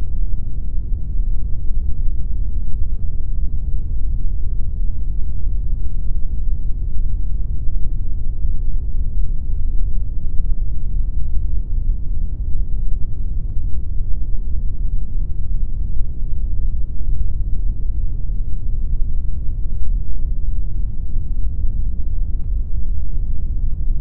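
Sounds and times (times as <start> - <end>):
steady pink noise: 0.0 - 24.0.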